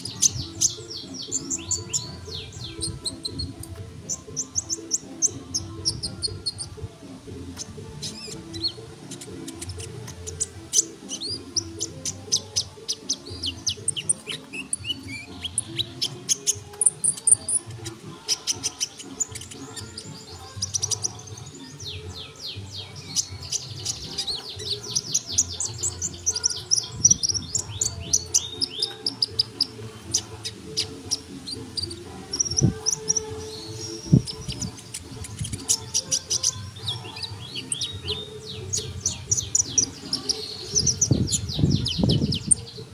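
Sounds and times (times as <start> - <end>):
bird singing high chirps: 0.0 - 6.8, 7.6 - 42.9.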